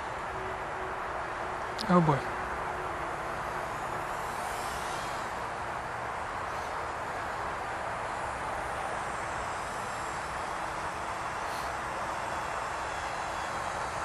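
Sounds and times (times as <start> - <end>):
outdoor background hiss: 0.0 - 14.0
quadcopter motors whining: 0.0 - 14.0.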